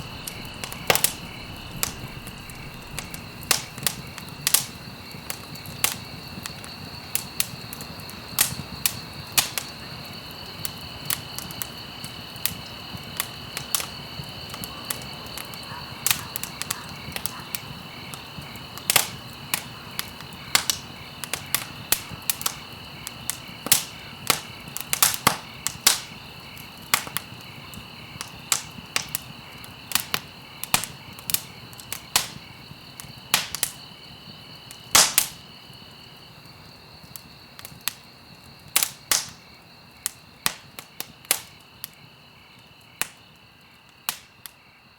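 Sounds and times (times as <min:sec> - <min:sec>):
campfire crackling and popping: 0:00.0 - 0:44.6.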